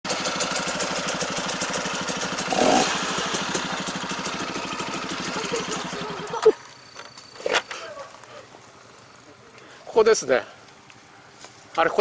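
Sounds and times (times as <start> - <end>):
motorcycle engine puttering: 0.1 - 11.9.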